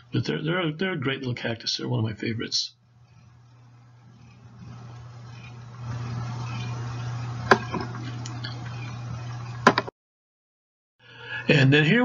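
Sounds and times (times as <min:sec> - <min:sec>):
low hum: 0:00.0 - 0:09.9.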